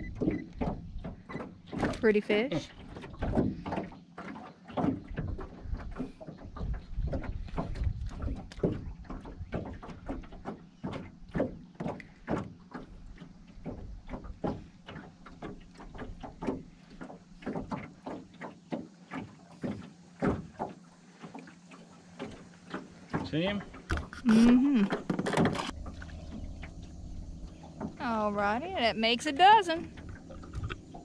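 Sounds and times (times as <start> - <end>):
knocks and slaps on boat: 0.0 - 31.0.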